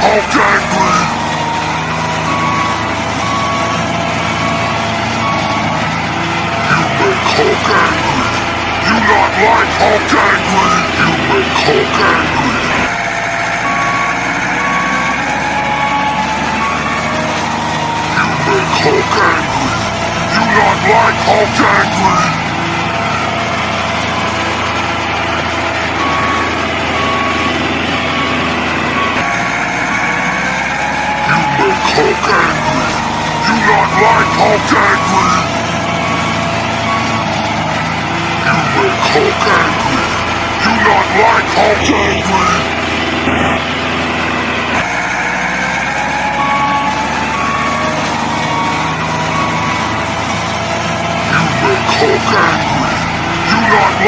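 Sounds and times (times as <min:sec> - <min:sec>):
reversing beeps: 0:00.0 - 0:43.6, 0:44.8 - 0:54.0
model truck motor running: 0:00.0 - 0:54.0.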